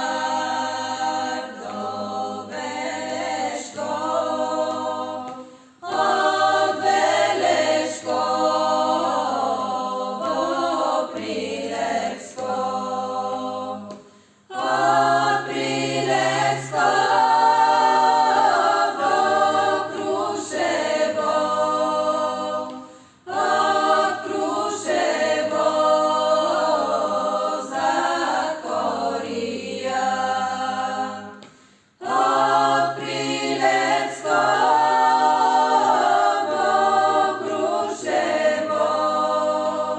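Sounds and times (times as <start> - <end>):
choir singing unaccompanied: 0.0 - 39.9.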